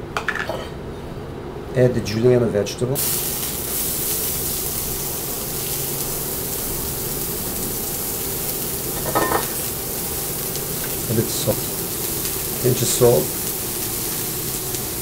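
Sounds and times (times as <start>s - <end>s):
vegetables sizzling in hot oil: 3.0s - 15.0s.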